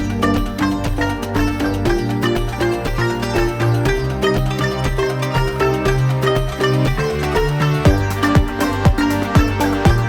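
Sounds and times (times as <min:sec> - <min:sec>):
kick drum beat: 0:00.0 - 0:10.0
sustained bass notes: 0:00.0 - 0:10.0.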